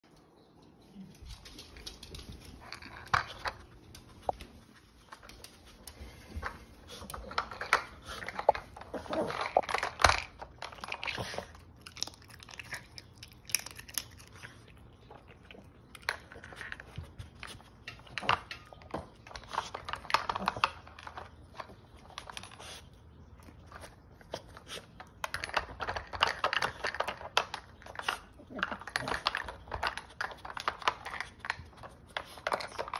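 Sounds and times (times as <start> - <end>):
dog chewing treats: 1.0 - 32.9.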